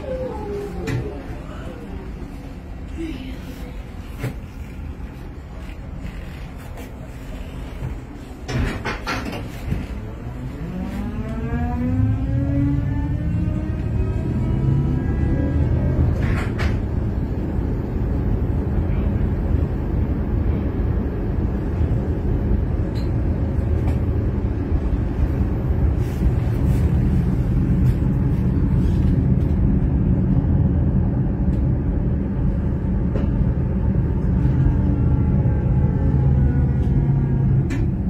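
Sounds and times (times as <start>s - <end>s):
tram low rumble: 0.0s - 38.0s.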